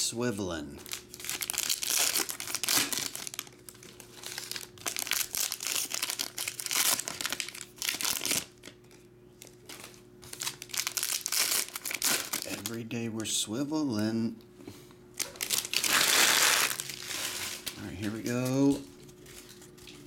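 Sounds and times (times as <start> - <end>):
wrappers crinkling and rustling: 0.8 - 12.8, 15.2 - 20.0.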